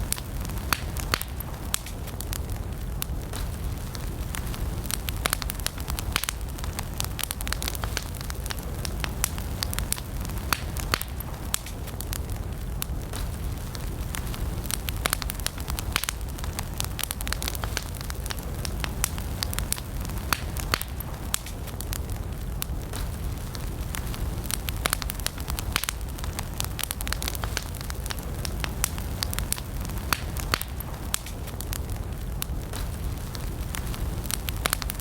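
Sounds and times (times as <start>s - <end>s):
campfire crackling and popping: 0.0s - 35.0s
low rumble of flames: 0.0s - 35.0s.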